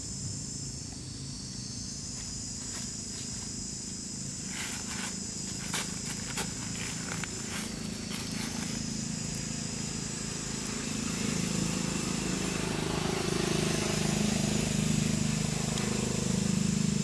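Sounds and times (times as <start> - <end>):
engine running: 0.0 - 17.0
steady high hiss: 0.0 - 17.0.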